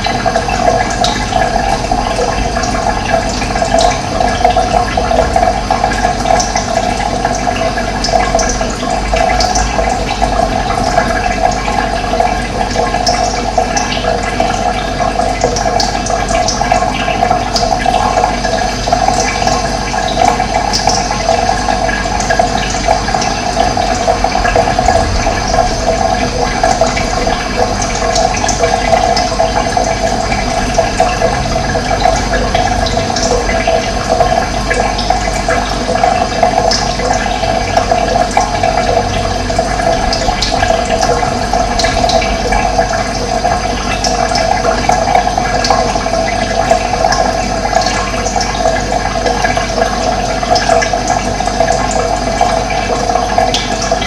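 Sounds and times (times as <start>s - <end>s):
running water splashing: 0.0s - 54.0s.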